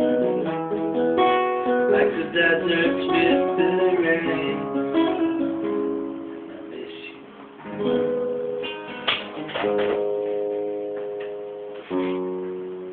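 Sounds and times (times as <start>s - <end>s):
guitar strumming chords: 0.0s - 12.9s.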